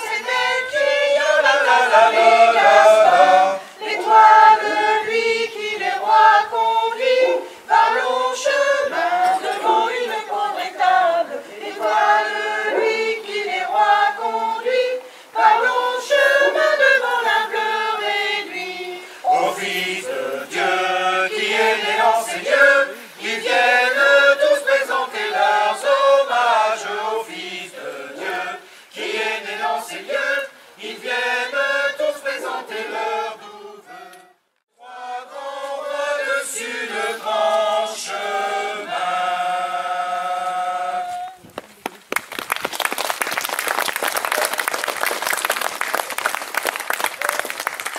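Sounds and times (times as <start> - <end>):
choir singing unaccompanied: 0.0 - 41.4.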